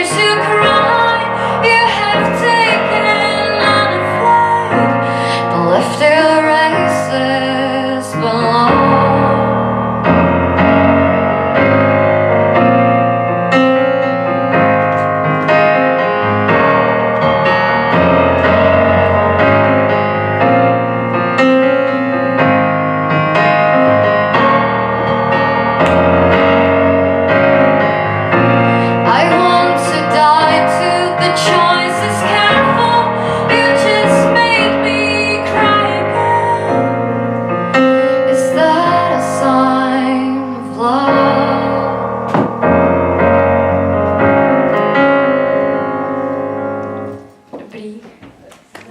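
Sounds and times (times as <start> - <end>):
piano chords: 0.0 - 48.9.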